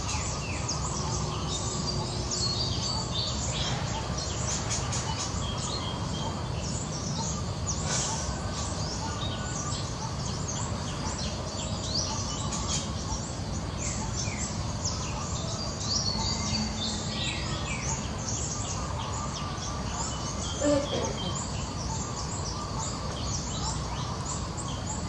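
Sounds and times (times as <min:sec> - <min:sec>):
background hiss and rumble: 0:00.0 - 0:25.0
small birds chirping: 0:00.0 - 0:25.0.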